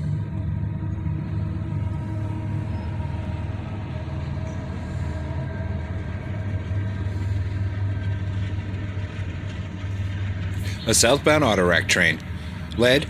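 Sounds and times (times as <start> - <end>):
diesel locomotives droning: 0.0 - 13.0.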